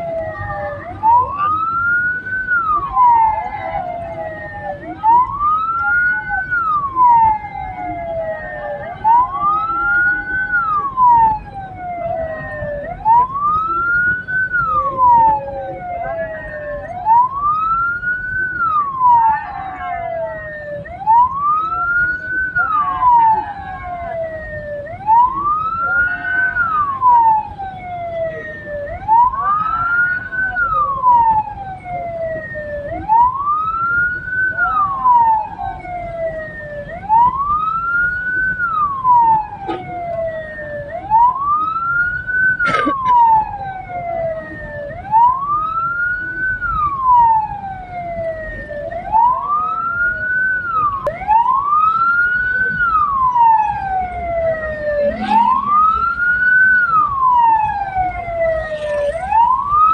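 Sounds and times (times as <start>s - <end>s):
siren wailing: 0.0s - 59.9s
vehicle rumble: 0.0s - 59.9s.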